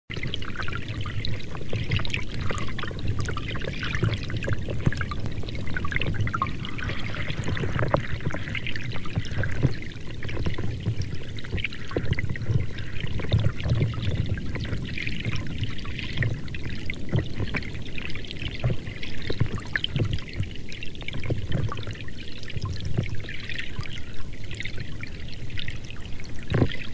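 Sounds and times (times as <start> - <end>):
small splashes and drips: 0.1 - 26.9
water pouring: 0.1 - 26.9.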